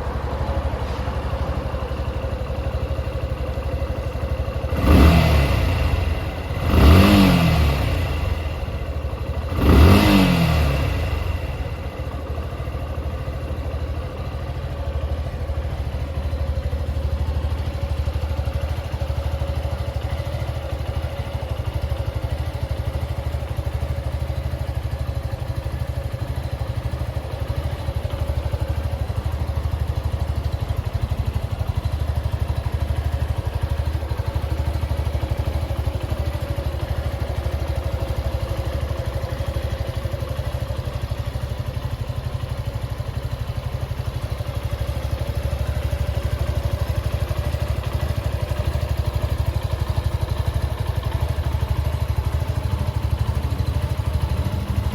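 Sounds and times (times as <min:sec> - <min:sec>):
motorcycle engine idling: 0:00.0 - 0:54.9.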